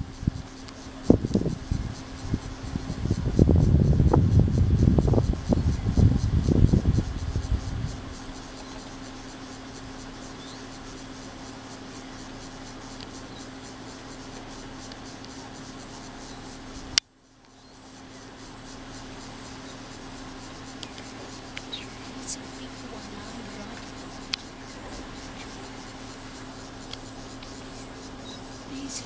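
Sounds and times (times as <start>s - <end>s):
low hum with hiss: 0.0s - 29.0s.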